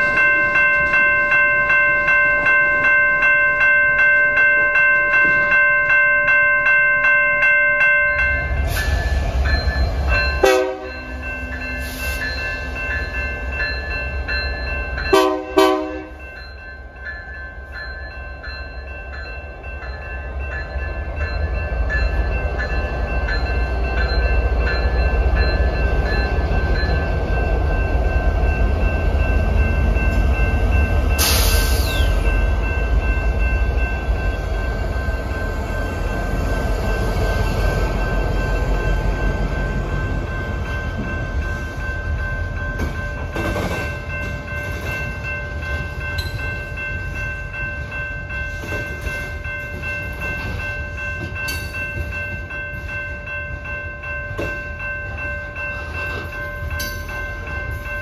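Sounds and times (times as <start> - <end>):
freight train rumbling past: 0.0 - 58.0
train bell ringing: 0.0 - 58.0.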